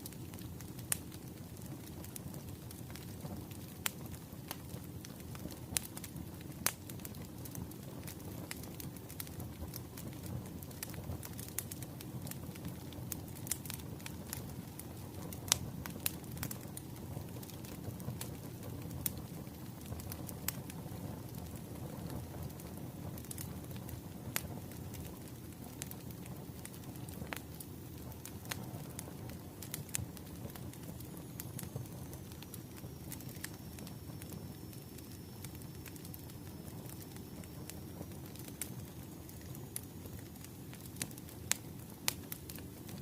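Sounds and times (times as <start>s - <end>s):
fire pops and snaps: 0.0s - 43.0s
firewood crackling: 0.0s - 43.0s
low rumble of fire: 0.0s - 43.0s.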